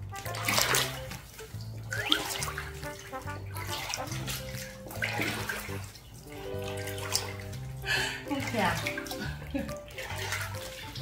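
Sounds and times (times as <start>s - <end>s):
background music with bass line: 0.0s - 11.0s
bath water sloshing and splashing: 0.0s - 11.0s.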